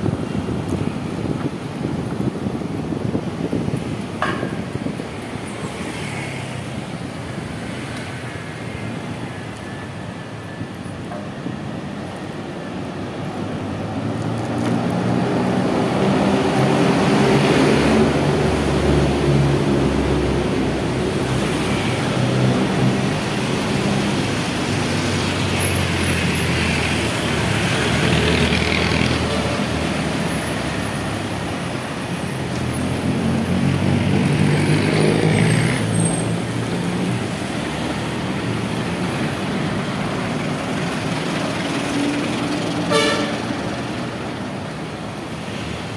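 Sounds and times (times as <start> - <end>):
vehicles passing by: 0.0 - 45.9.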